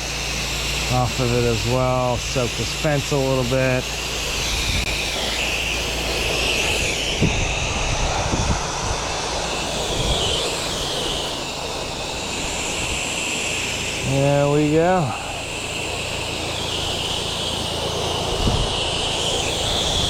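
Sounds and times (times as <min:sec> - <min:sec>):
low machine hum: 0:00.0 - 0:20.0
pressure washer spraying water: 0:00.0 - 0:20.0.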